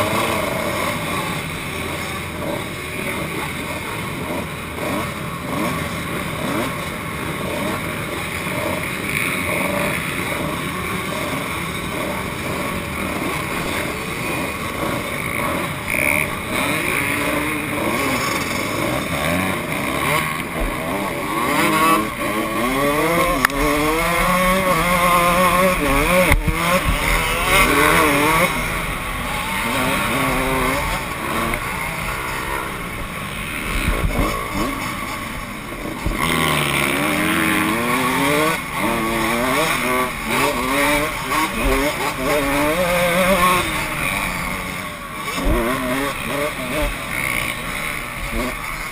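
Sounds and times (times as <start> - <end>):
dirt bike engine revving: 0.0 - 48.9
other motocross bikes running: 0.0 - 48.9.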